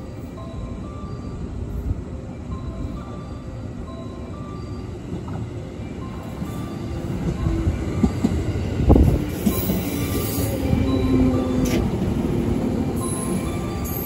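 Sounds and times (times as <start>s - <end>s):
electric train wheels rumbling: 0.0s - 14.0s.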